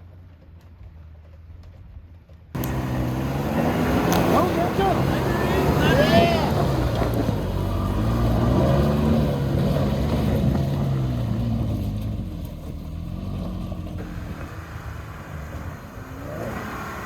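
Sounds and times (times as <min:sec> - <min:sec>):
off-road vehicle engine revving: 0:02.6 - 0:17.0.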